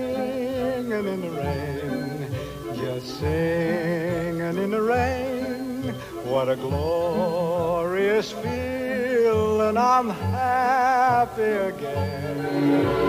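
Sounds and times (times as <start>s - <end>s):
orchestral accompaniment: 0.0s - 13.0s.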